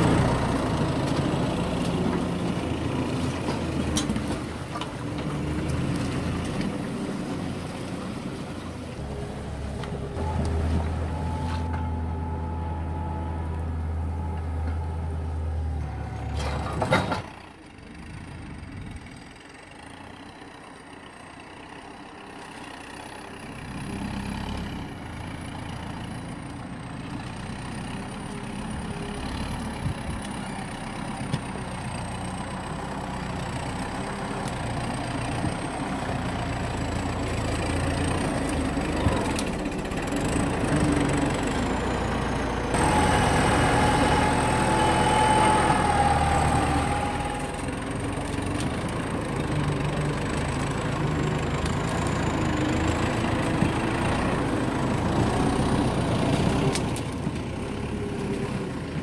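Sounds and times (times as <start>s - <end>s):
tractor diesel engine running: 0.0s - 59.0s
tractor driving through mud: 0.0s - 59.0s.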